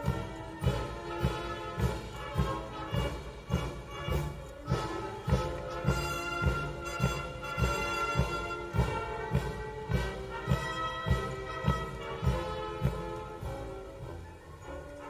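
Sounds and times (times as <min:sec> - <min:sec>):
bass drum beat: 0:00.0 - 0:13.7
brass band playing a march: 0:00.0 - 0:15.0.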